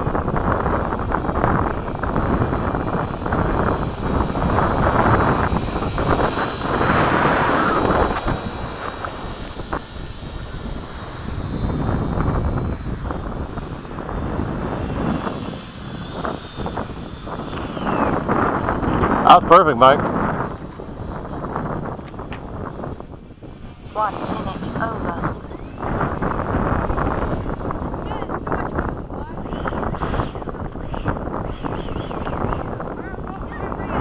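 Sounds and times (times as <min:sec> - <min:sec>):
model plane motor whine: 0:00.0 - 0:34.0
wind buffeting microphone: 0:00.0 - 0:34.0.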